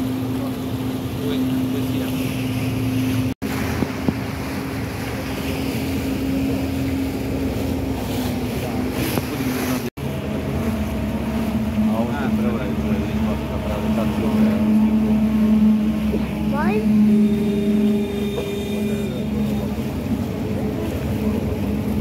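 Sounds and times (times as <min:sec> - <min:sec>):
boat engine humming: 0:00.0 - 0:22.0
rushing water: 0:00.0 - 0:22.0
wind on microphone: 0:02.0 - 0:22.0.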